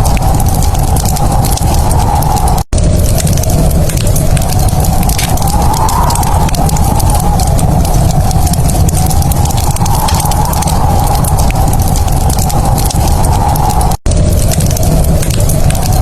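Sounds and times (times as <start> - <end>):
low rumble: 0.0 - 16.0
wood fire crackling: 0.0 - 16.0.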